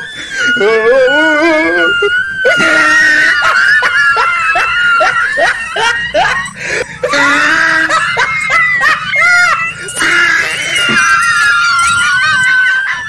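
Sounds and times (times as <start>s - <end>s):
dog screaming and yelping: 0.0s - 13.0s.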